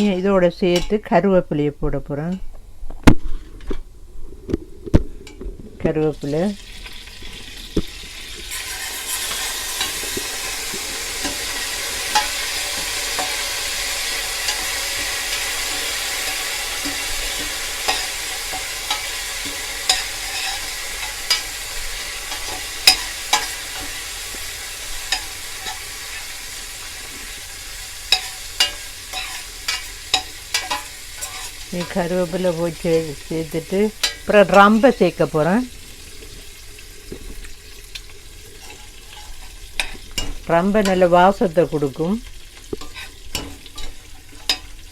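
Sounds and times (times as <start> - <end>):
leaves sizzling in hot fat: 4.2 - 44.9.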